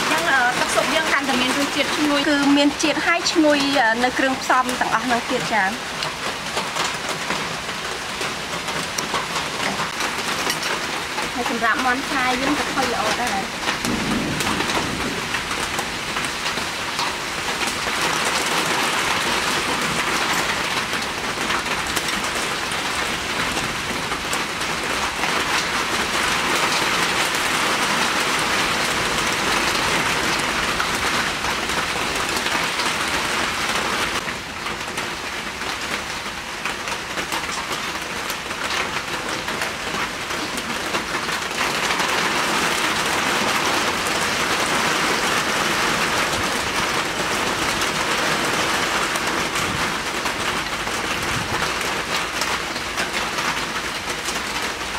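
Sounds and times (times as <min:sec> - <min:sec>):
heavy rain on hard surfaces: 0:00.0 - 0:54.9.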